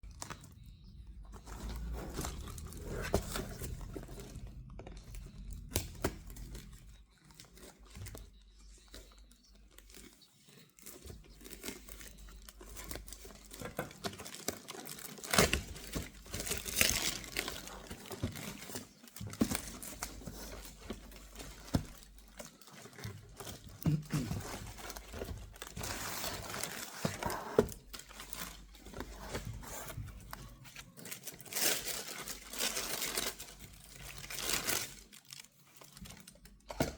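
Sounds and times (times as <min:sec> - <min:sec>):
wrapping crinkling and tearing: 0:00.0 - 0:36.9.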